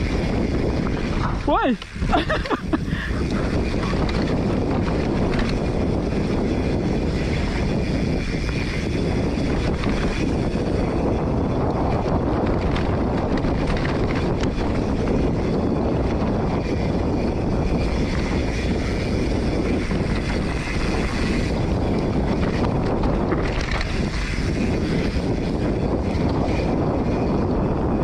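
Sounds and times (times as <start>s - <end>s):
bike clicks and rattles: 0.0s - 28.0s
bike tyres on dirt: 0.0s - 28.0s
wind buffeting microphone: 0.0s - 28.0s.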